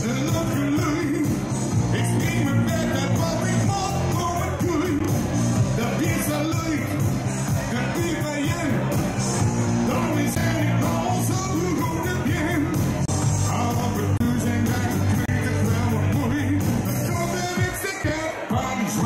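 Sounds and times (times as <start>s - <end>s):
man singing: 0.0s - 9.0s, 9.8s - 19.0s
keyboards: 0.0s - 19.0s
live band music with beat: 0.0s - 19.0s.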